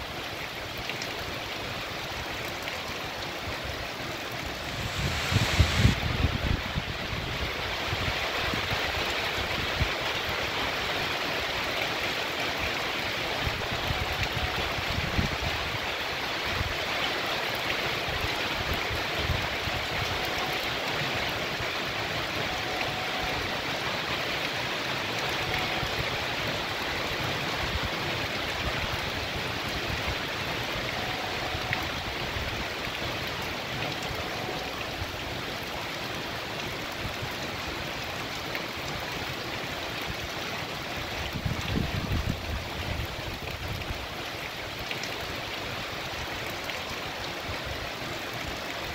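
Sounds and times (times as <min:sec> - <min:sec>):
heavy rain on tree and pavement: 0:00.0 - 0:48.9.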